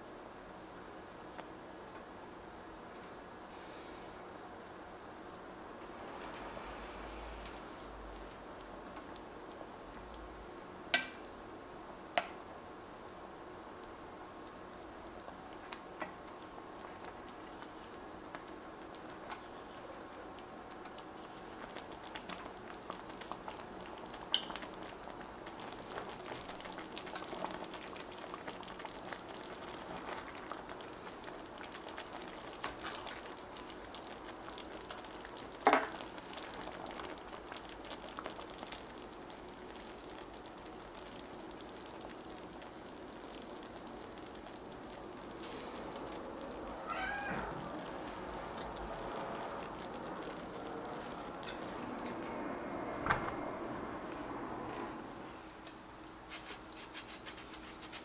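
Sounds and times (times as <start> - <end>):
sauce simmering and bubbling: 5.5 - 58.0.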